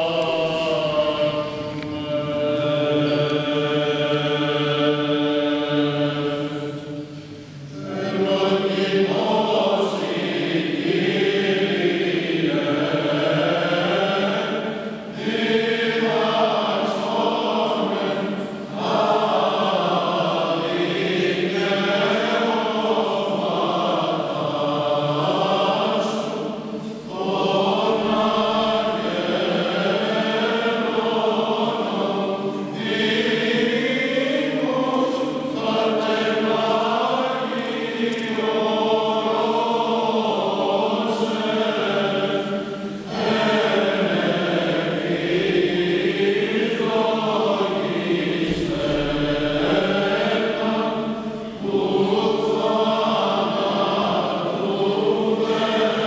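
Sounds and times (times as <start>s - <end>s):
choir chanting a hymn: 0.0s - 56.0s.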